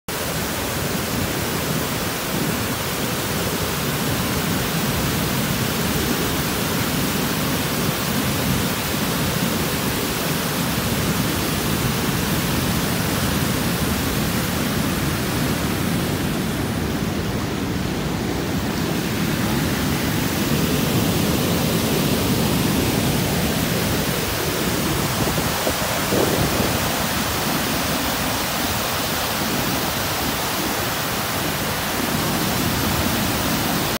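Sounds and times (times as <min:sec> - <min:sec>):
waterfall rushing over rocks: 0:00.1 - 0:34.0.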